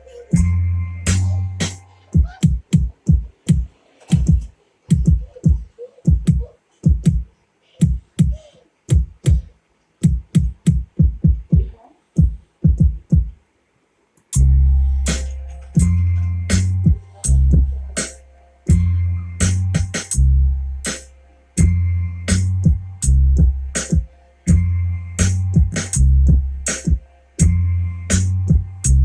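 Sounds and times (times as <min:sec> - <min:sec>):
electronic beat with deep bass: 0:00.0 - 0:13.4, 0:14.3 - 0:29.0
electronic kick drums: 0:00.0 - 0:13.4, 0:14.4 - 0:29.0.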